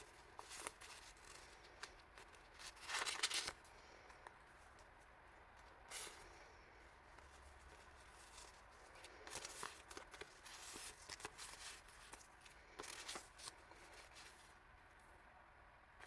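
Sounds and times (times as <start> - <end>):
paper packaging rustling: 0.0 - 5.0, 5.6 - 6.3, 7.1 - 14.6.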